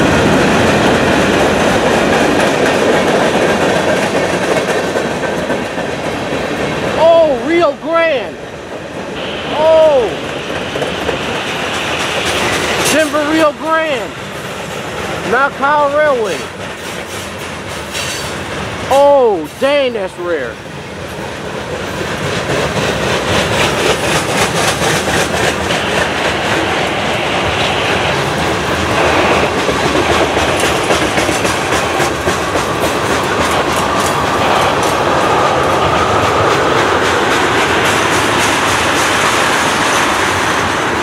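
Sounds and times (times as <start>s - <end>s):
train wheels clattering over rail joints: 0.0s - 7.0s, 10.1s - 18.9s, 21.0s - 41.0s.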